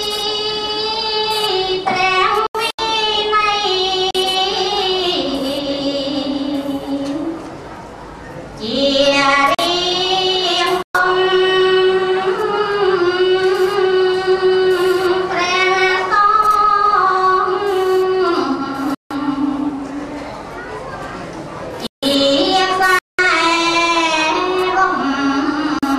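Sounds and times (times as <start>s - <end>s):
woman singing melismatic chant: 0.0s - 7.4s, 8.6s - 20.1s, 22.0s - 25.9s.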